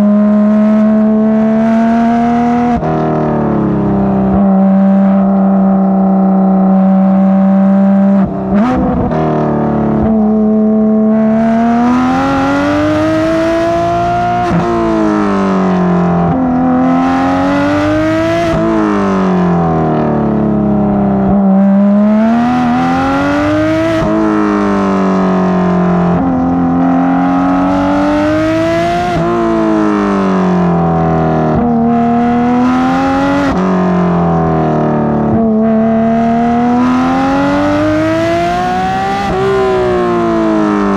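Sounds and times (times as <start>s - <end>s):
sports car engine revving: 0.0s - 40.9s.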